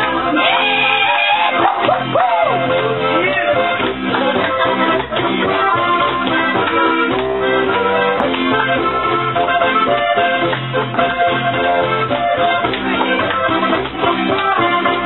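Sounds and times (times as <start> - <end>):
folk dance band playing: 0.0 - 15.0.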